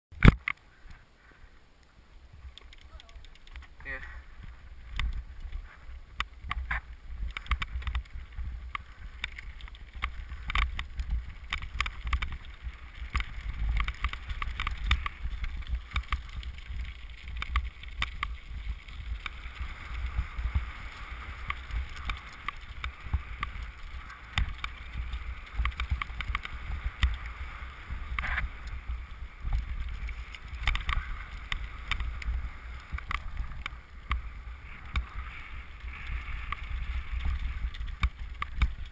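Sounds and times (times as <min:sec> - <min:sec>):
bike clicking and rattling: 0:02.4 - 0:38.9
bike tyres crunching on gravel: 0:02.4 - 0:38.9.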